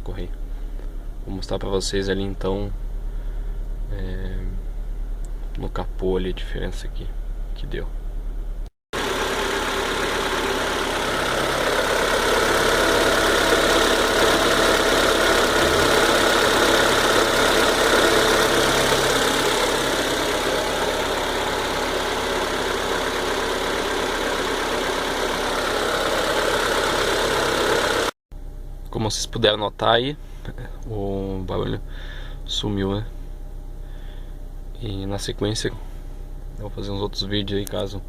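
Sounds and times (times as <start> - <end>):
car engine idling: 0.2 - 5.6, 7.0 - 29.2, 29.9 - 38.0.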